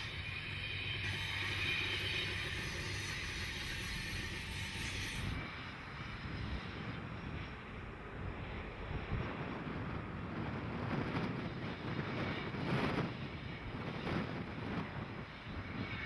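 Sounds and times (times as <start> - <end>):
train passing: 0.0 - 16.0
wind buffeting microphone: 0.0 - 16.0.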